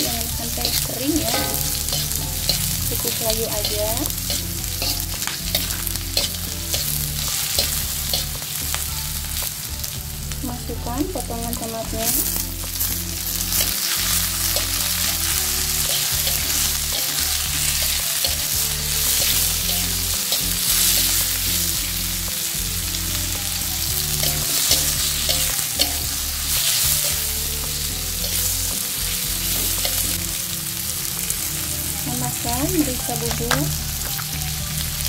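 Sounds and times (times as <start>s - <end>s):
vegetables sizzling in oil: 0.0s - 35.0s
metal spatula scraping a wok: 0.1s - 10.4s, 12.1s - 30.4s.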